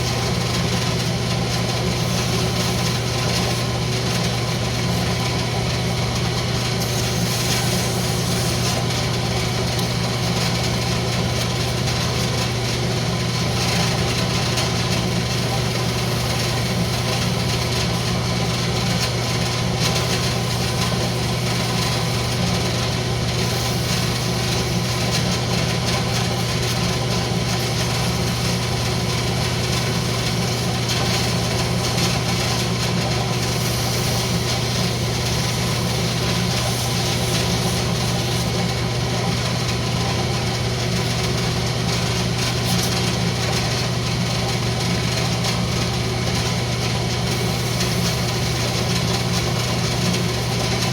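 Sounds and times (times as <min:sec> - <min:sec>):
wood lathe motor humming: 0:00.0 - 0:50.9.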